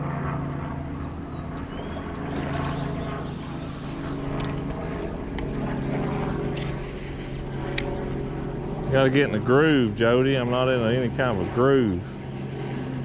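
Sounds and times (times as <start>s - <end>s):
boat motor drone: 0.0s - 13.0s.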